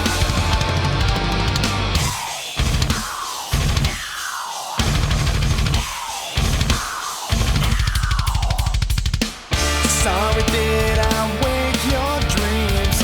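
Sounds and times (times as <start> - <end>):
rock music with heavy drums: 0.0 - 13.0.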